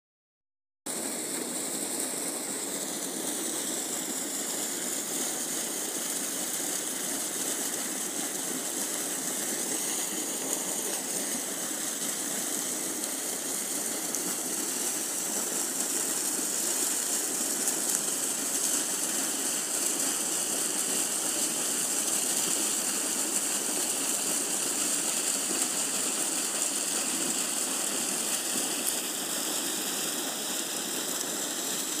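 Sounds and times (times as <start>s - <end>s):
stream water splashing into pool: 0.9s - 32.0s.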